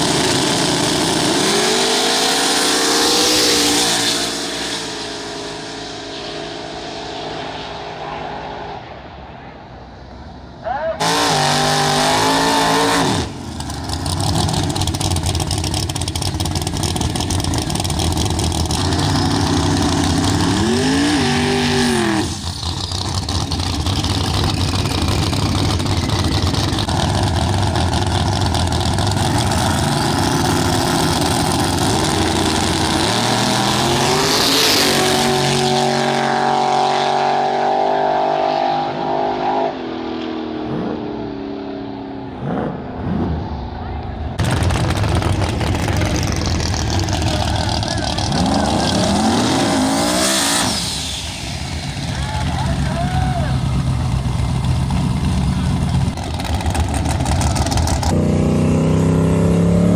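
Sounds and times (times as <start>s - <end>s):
drag car engines revving: 0.0s - 59.9s
cars accelerating away: 11.0s - 59.9s.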